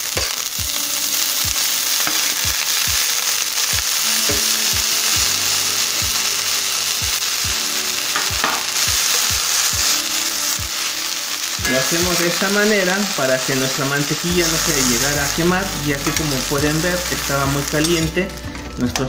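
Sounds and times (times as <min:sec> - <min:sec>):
spatula turning food in skillet: 0:00.0 - 0:18.4
broccoli sizzling in butter: 0:00.0 - 0:18.5.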